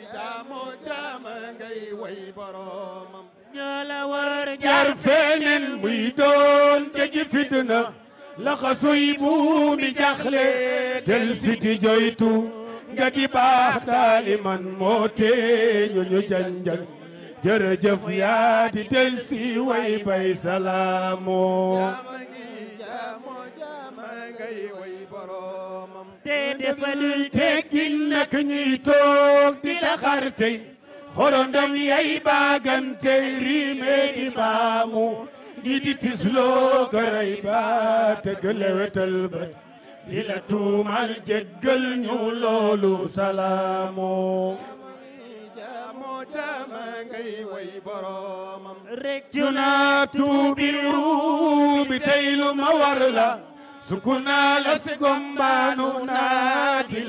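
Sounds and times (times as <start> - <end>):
devotional chanting: 0.0 - 57.0.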